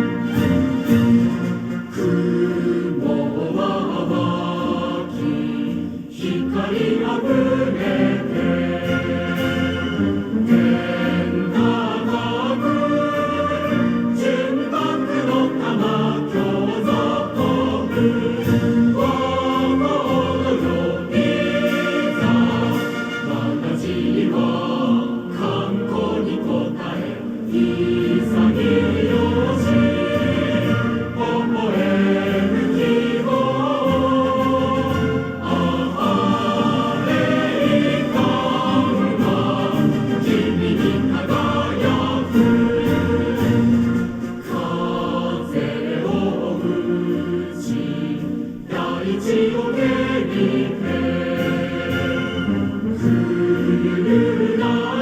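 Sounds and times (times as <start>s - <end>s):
choir song over loudspeaker: 0.0s - 55.0s.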